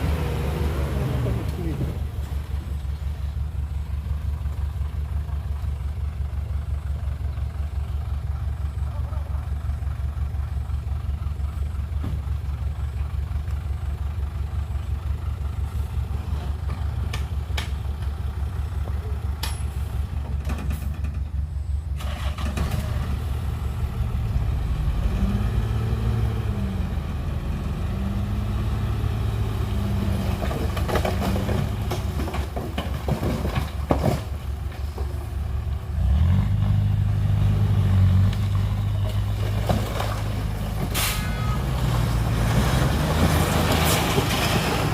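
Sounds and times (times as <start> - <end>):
diesel machinery engine: 0.0 - 44.9.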